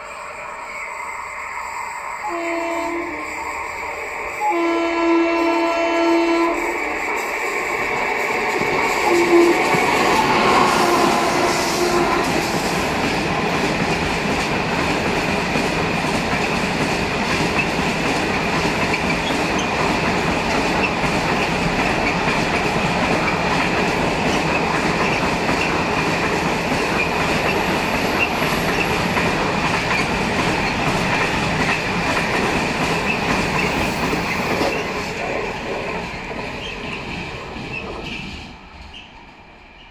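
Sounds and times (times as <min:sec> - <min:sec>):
freight train wheels ringing on rails: 0:05.0 - 0:38.2.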